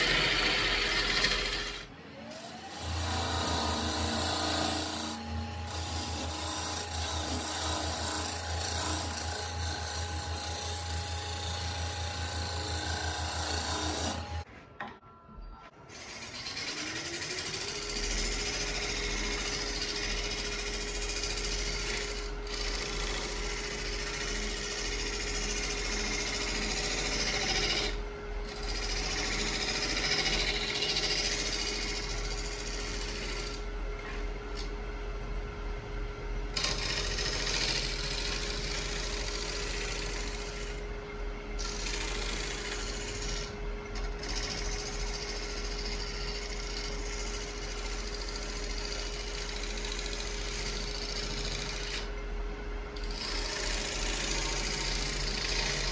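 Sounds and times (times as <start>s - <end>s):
gouge scraping spinning wood: 0.0s - 14.5s, 15.9s - 34.2s, 36.6s - 40.9s, 41.6s - 52.2s, 53.0s - 55.9s
wood lathe motor whine: 0.0s - 14.5s, 15.9s - 55.9s.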